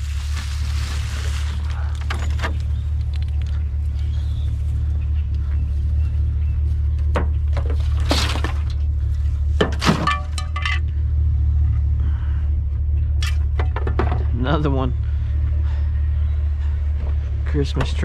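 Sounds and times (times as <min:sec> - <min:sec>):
vehicle engine drone from inside: 0:00.0 - 0:18.0.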